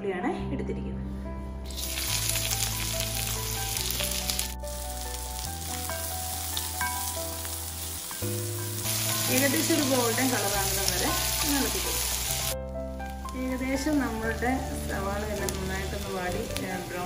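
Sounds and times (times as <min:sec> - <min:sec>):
background music: 0:00.0 - 0:17.0
onion and garlic sizzling in oil: 0:01.7 - 0:17.0.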